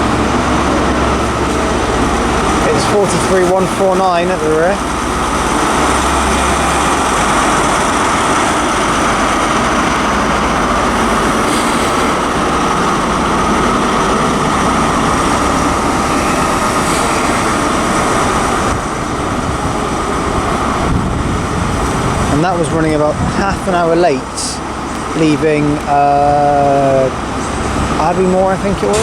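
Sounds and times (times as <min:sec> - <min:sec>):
diesel train passing: 0:00.0 - 0:29.0.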